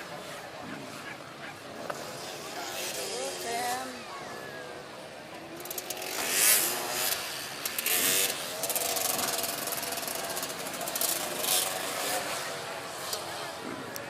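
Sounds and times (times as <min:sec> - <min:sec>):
three-wheeler engines revving: 0:00.0 - 0:14.0.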